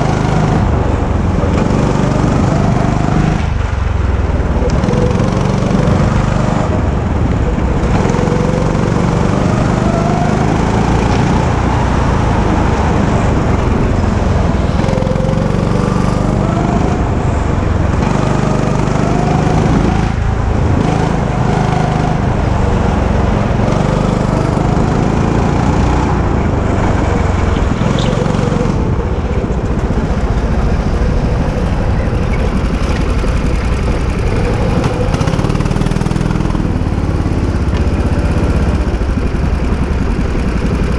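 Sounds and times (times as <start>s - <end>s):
go-kart engine running hard: 0.0s - 40.9s.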